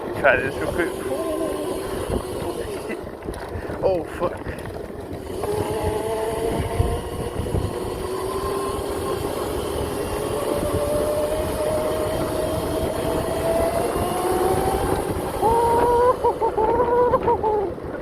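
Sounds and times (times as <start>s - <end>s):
electric motor whine: 0.0s - 3.5s, 4.6s - 17.3s.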